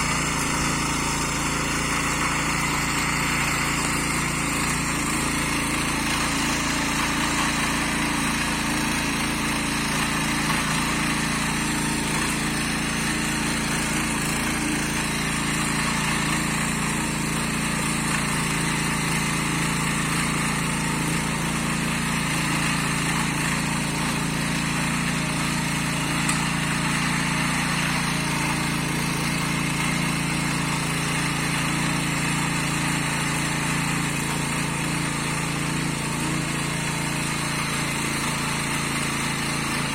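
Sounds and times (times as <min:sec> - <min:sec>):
garden tiller engine running: 0:00.0 - 0:39.9.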